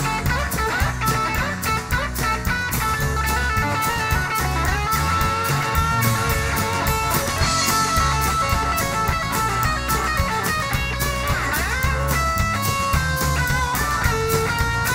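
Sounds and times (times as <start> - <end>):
bass guitar: 0.0 - 14.9
drum beat: 0.0 - 14.9
lead electric guitar bending notes: 0.0 - 14.9
strummed acoustic guitar: 0.0 - 14.9.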